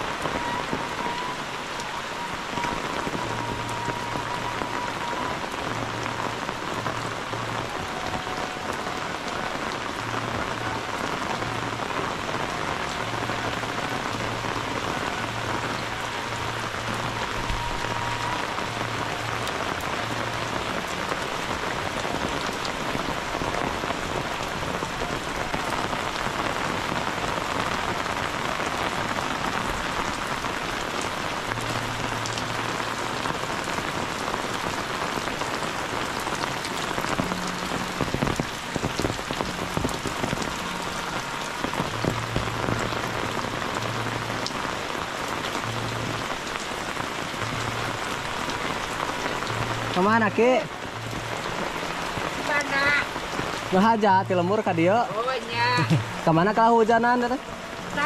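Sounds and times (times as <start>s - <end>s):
close raindrop hits: 0.0s - 58.0s
heavy rain on roofs: 0.0s - 58.0s.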